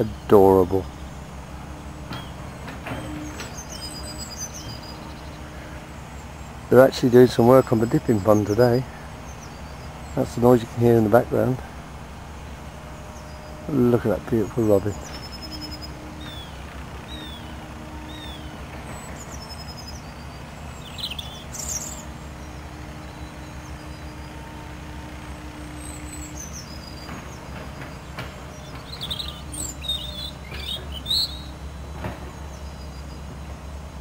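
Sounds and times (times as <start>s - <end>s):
low machinery drone: 0.0s - 34.0s
robin singing: 0.0s - 34.0s.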